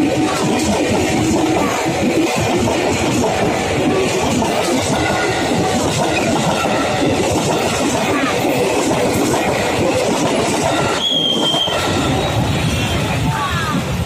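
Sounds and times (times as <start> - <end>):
electric train rumbling past: 0.0 - 14.0
wheel clatter over rails: 0.0 - 14.0.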